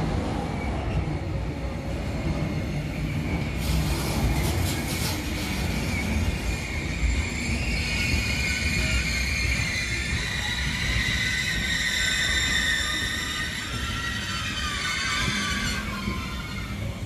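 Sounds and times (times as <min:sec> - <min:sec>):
train wheels rumbling on rail: 0:00.0 - 0:17.0
high wheel squeal: 0:02.5 - 0:17.0.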